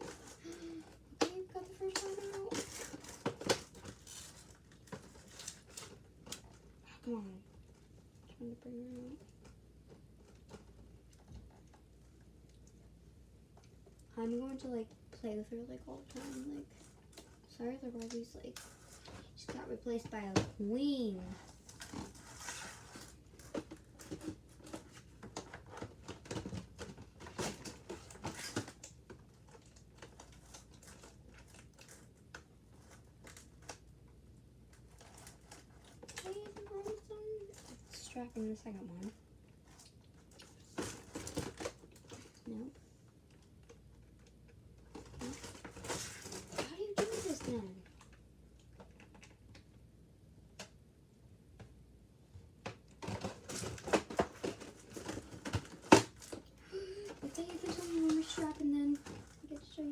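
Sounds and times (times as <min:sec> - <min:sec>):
plastic packaging clicks and crinkles: 0:00.0 - 0:11.9, 0:15.9 - 0:20.6, 0:21.3 - 0:49.8, 0:52.6 - 0:59.9.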